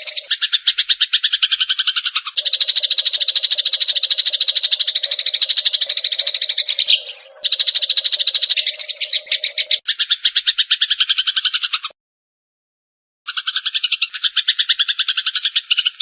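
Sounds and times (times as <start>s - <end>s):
sparrows chirping chatter: 0.0s - 12.0s, 13.3s - 16.0s.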